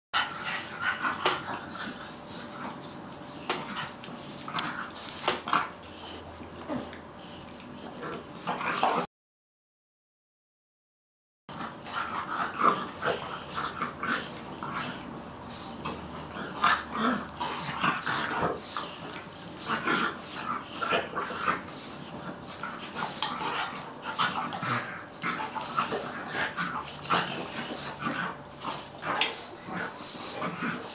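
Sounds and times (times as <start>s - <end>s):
dogs scuffling on tile floor: 0.2s - 9.0s, 11.5s - 30.9s.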